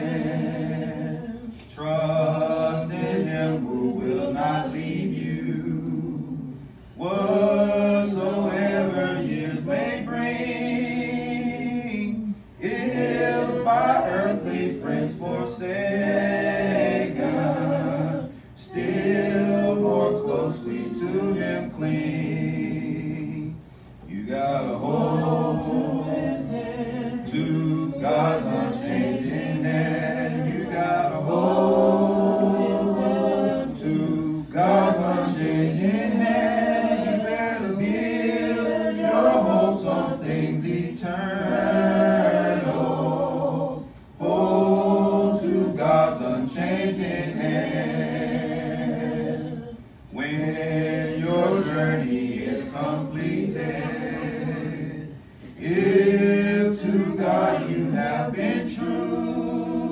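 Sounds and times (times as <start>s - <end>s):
voices singing a hymn: 0.0s - 59.9s.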